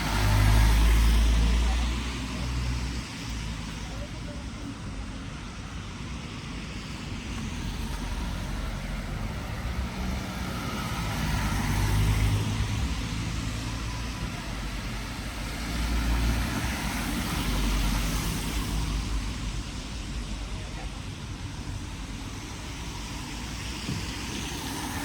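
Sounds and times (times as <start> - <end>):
low traffic rumble: 0.0 - 25.0
vehicles passing: 0.0 - 25.0.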